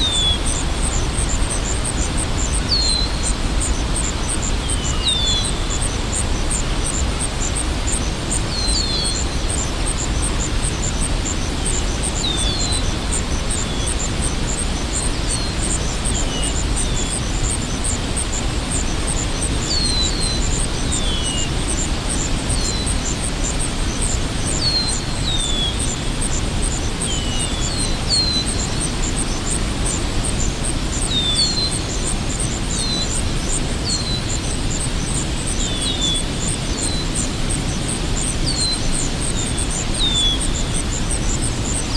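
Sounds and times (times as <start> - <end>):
birds chirping: 0.0 - 41.9
waterfall rushing: 0.0 - 41.9.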